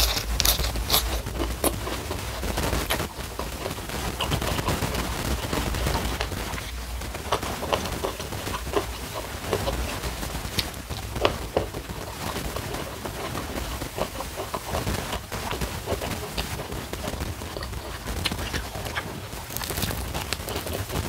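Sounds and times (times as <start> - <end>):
chewing food with mouth clicks: 0.0 - 21.0.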